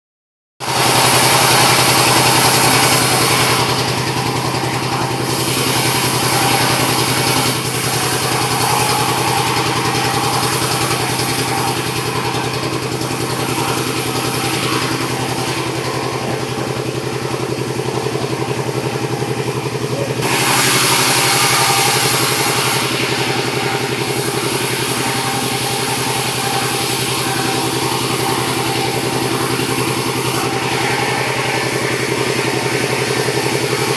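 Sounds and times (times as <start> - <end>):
engine drone: 0.6 - 33.9
saw cutting logs: 0.6 - 33.9.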